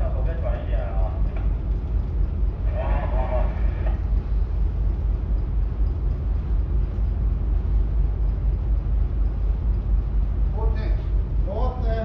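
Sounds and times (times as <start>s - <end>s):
ship deck rumble: 0.0s - 12.0s.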